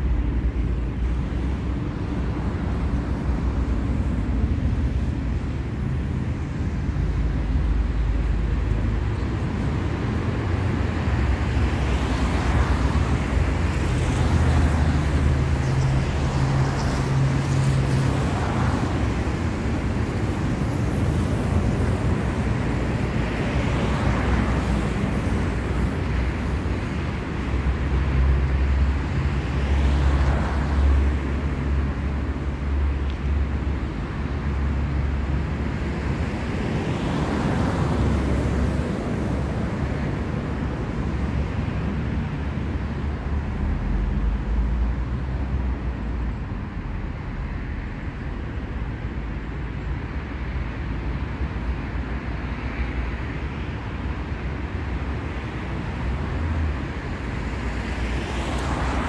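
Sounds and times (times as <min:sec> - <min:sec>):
low rumble of engines: 0:00.0 - 0:59.0
vehicles passing: 0:00.0 - 0:59.0.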